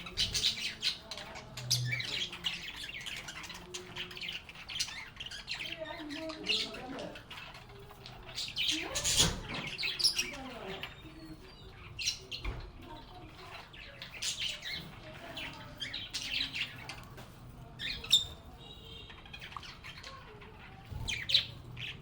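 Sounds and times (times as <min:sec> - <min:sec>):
birds chirping and squawking: 0:00.0 - 0:22.0.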